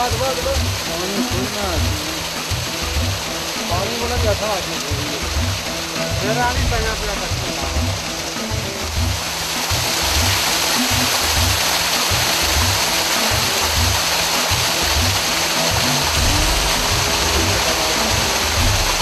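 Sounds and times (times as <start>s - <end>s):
background music with low beat: 0.0s - 19.0s
small waterfall rushing: 0.0s - 19.0s.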